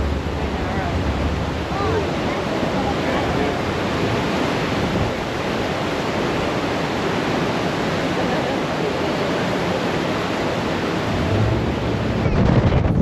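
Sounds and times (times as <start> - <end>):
rushing water through rapids: 0.0 - 13.0.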